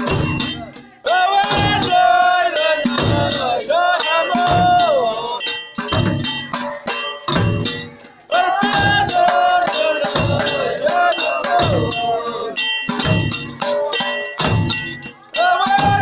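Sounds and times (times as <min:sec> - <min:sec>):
group of voices singing: 0:00.0 - 0:16.0
struck percussion: 0:00.0 - 0:16.0.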